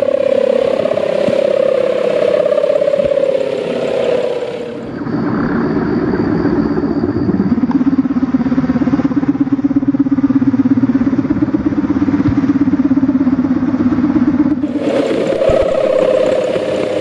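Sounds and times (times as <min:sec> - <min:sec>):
kite hummer droning: 0:00.0 - 0:17.0.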